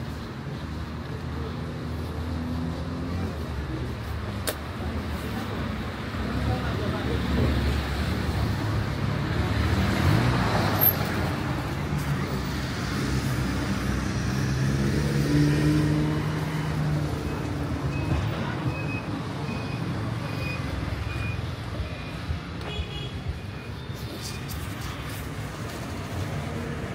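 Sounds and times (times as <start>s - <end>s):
cars passing: 0.0s - 26.9s.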